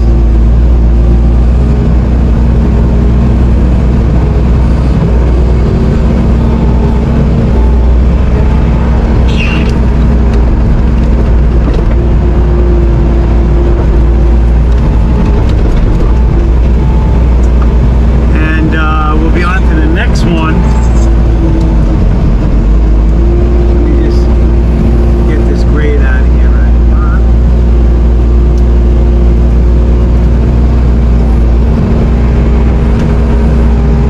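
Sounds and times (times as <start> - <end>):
diesel engine running loud: 0.0 - 34.0.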